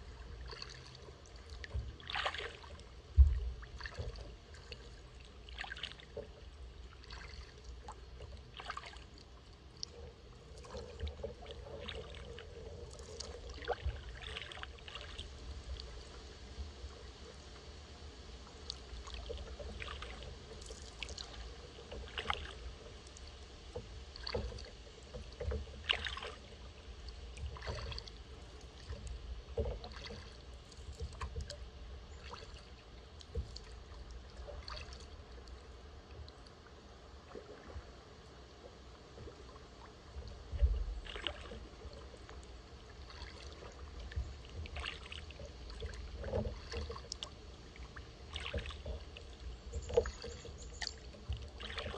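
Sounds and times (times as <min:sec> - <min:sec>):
paddle splashing in water: 0:00.0 - 0:17.4, 0:18.5 - 0:51.9.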